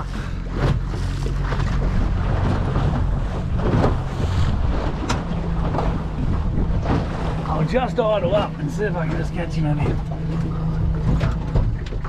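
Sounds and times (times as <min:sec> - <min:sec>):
outboard motor idling: 0:00.0 - 0:12.0
wind buffeting microphone: 0:00.0 - 0:12.0.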